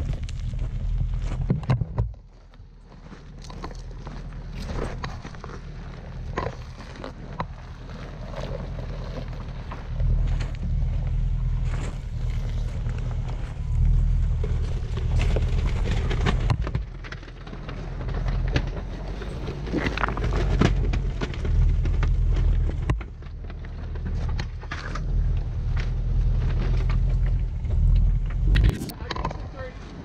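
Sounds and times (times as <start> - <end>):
tyres crunching over stones: 0.0 - 30.0
vehicle engine low rumble: 0.0 - 30.0.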